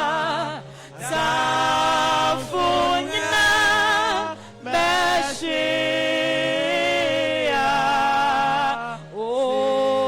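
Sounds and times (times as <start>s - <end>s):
voices singing a slow worship chorus: 0.0s - 10.0s.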